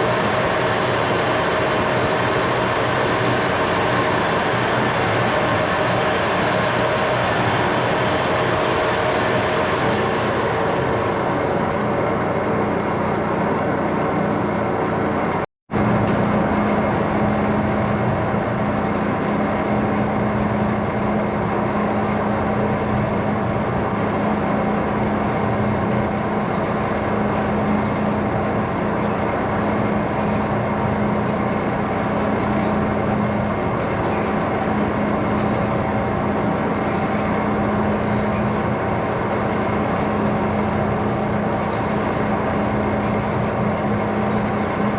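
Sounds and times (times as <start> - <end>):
machine humming and hissing: 0.0 - 44.9.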